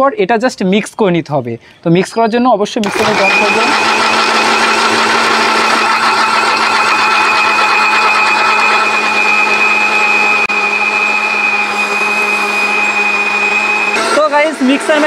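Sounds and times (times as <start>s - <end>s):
mixer grinder blending ice: 2.8s - 15.0s.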